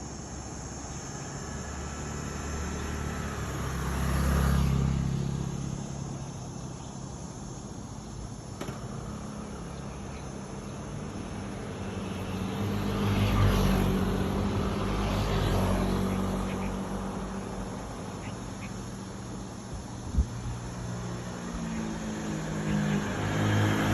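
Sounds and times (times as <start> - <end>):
vehicles passing close by: 0.0 - 23.9.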